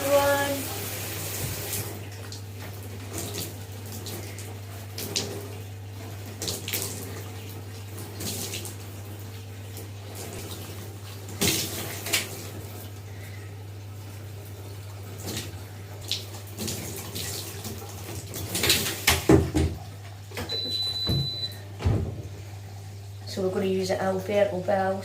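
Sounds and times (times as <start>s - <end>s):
running water splashing: 0.0s - 20.3s.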